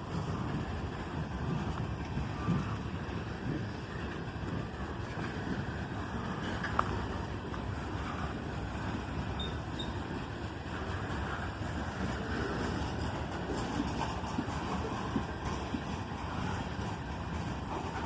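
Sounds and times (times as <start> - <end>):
freight train wheels rumbling: 0.0 - 18.0
wind on microphone: 0.0 - 18.0.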